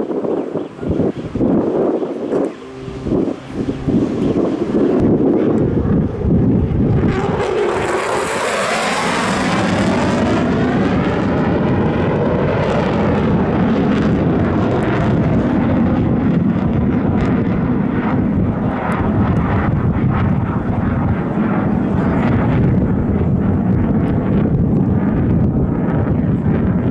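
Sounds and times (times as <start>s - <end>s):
jet engine roar: 0.0s - 26.9s
steady jet rumble: 0.0s - 26.9s.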